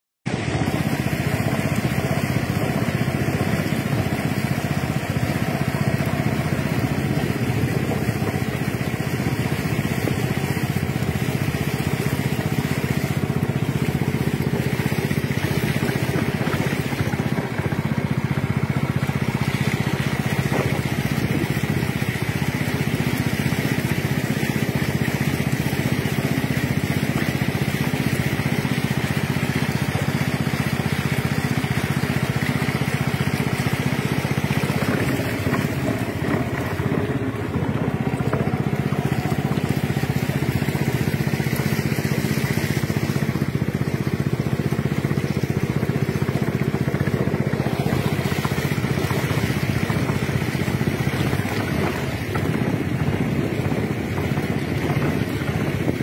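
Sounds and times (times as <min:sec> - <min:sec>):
boat motor running: 0:00.2 - 0:56.0.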